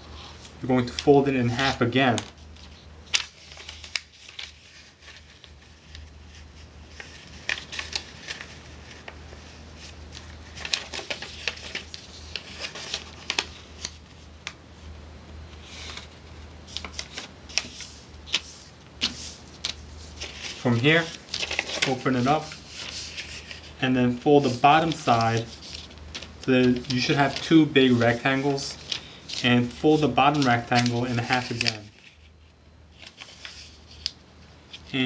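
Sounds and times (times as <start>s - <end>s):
steady low hum: 0.0s - 35.0s
paper rustling and crinkling: 0.2s - 14.9s, 15.5s - 35.0s.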